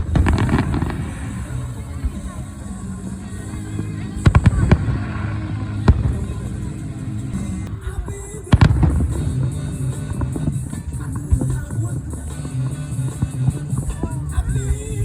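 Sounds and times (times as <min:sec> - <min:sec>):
background music: 0:00.0 - 0:15.0
fireworks bangs: 0:00.0 - 0:15.0.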